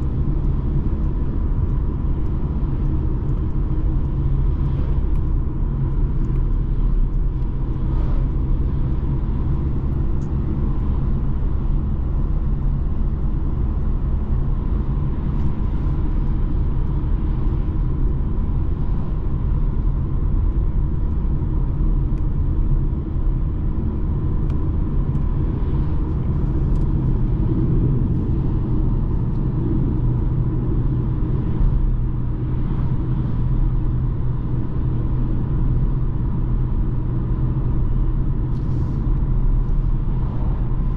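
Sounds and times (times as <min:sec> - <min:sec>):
diesel car engine driving: 0:00.0 - 0:40.9.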